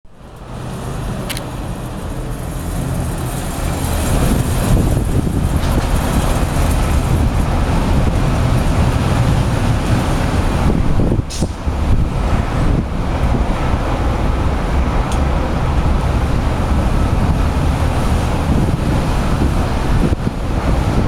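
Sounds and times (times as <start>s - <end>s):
wind buffeting microphone: 0.2s - 21.0s.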